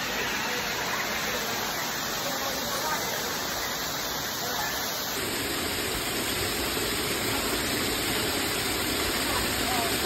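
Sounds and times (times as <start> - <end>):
waterfall rushing over rock: 0.0 - 10.0.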